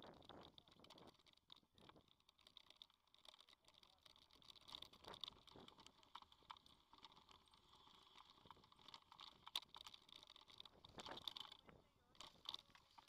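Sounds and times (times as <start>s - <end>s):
bike clicking and rattling: 0.0s - 13.0s.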